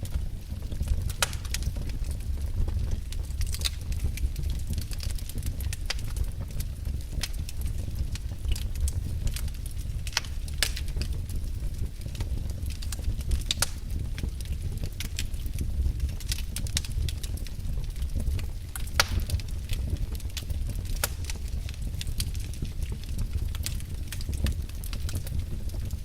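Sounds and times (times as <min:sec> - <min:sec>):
fire crackling and popping: 0:00.0 - 0:26.0
low rumble of burning fire: 0:00.0 - 0:26.0.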